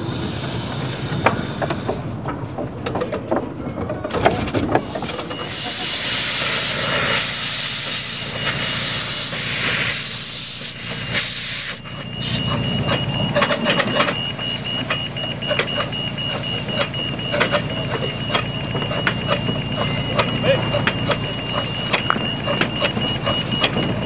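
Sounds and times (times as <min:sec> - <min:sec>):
steam locomotive hissing: 0:00.0 - 0:02.6, 0:04.6 - 0:24.0
carriages clicking over track: 0:00.0 - 0:24.0.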